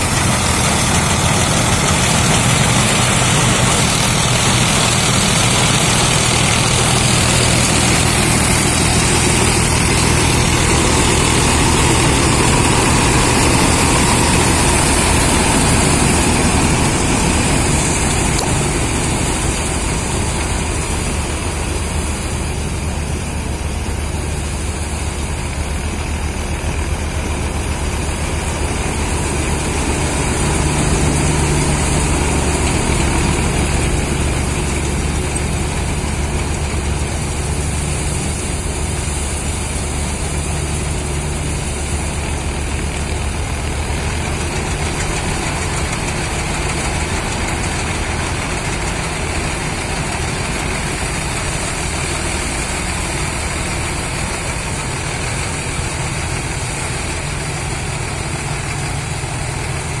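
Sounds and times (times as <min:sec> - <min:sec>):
combine harvester engine running: 0:00.0 - 1:00.0.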